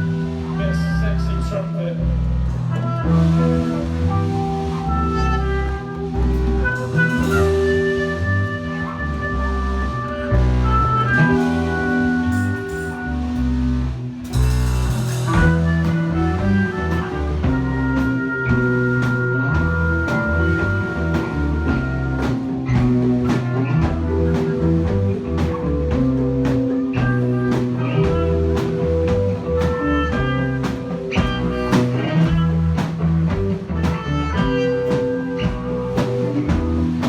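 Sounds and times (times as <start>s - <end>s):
bass line: 0.0s - 37.0s
drum kit beat: 0.0s - 37.0s
electric guitar: 0.0s - 37.0s
instrumental band music: 0.0s - 37.0s.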